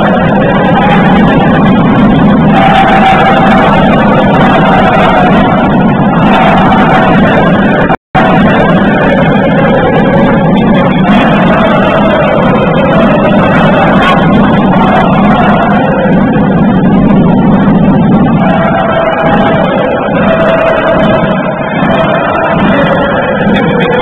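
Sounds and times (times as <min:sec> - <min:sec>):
gymnasium basketball game din: 0:00.0 - 0:24.0.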